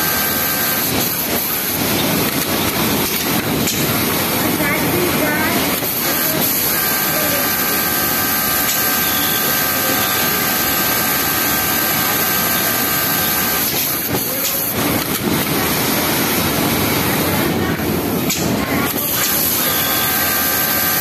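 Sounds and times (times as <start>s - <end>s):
sewing machine whining: 0.0s - 3.4s, 4.0s - 16.3s, 18.8s - 21.0s
mechanical noise: 0.0s - 21.0s.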